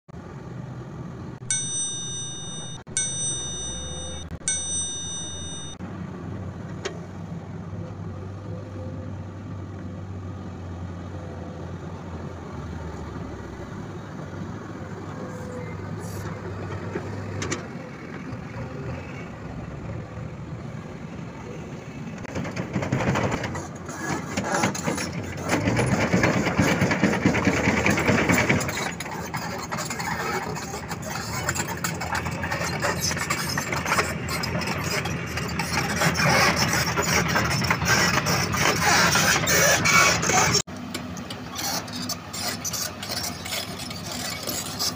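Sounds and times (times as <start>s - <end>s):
excavator diesel engine running: 0.2s - 44.9s.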